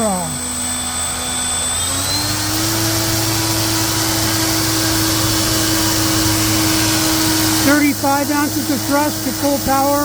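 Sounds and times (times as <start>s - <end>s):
electric motor propeller whine: 0.0s - 10.0s.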